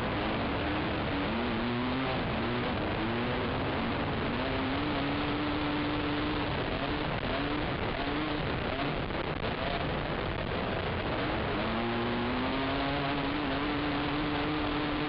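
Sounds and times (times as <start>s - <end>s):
atv engine surging: 0.0s - 15.0s.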